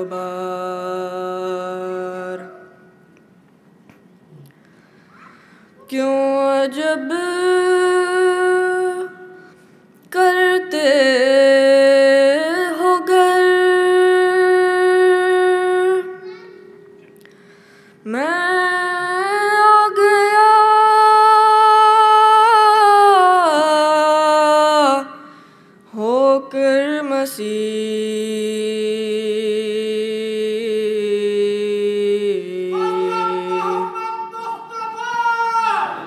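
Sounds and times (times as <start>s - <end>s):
person singing devotional poem: 0.0s - 3.0s, 5.8s - 16.4s, 18.0s - 35.0s.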